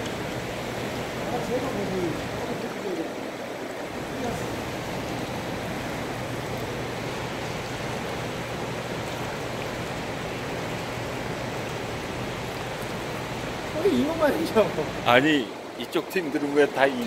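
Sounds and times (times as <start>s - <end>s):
turbulent water rushing: 0.0s - 17.0s.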